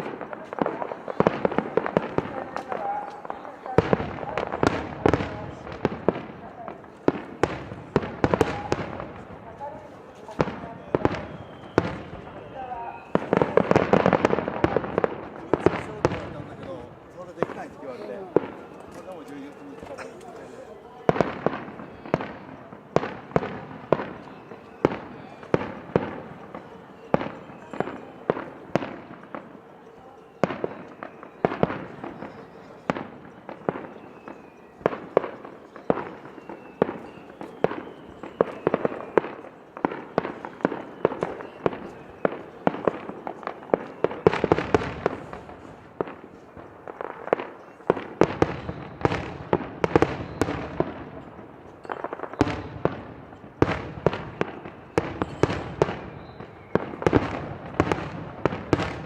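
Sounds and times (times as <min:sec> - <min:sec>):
fireworks bangs with echo: 0:00.0 - 0:59.0.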